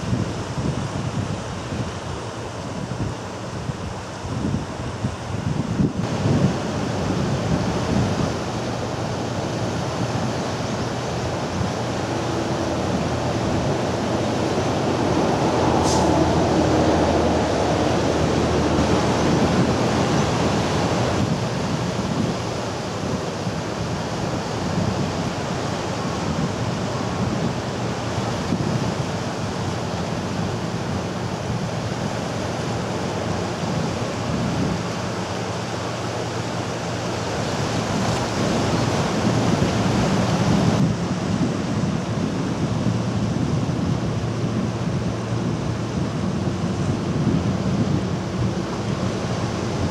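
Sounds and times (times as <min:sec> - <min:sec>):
surf washing over rocks: 0:00.0 - 0:49.9.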